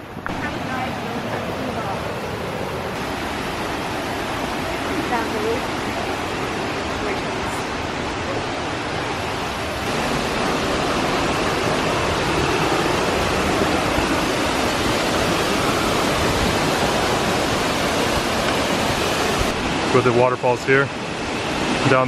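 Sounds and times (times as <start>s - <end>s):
large waterfall rushing: 0.0s - 22.0s.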